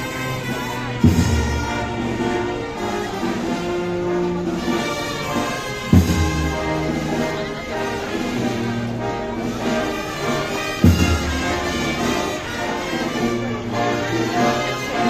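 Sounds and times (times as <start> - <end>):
brass band playing march: 0.0 - 15.0
heavy drum beats: 0.9 - 13.3.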